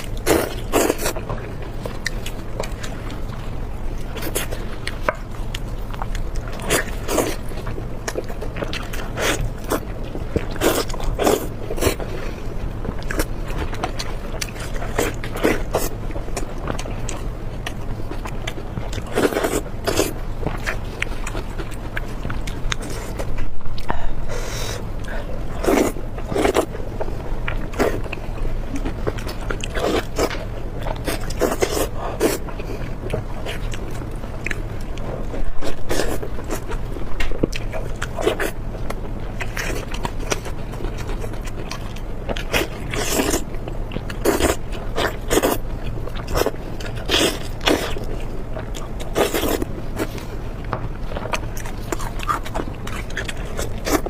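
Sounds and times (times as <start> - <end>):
person chewing and biting: 0.0 - 54.0
steady low hum: 0.0 - 54.0.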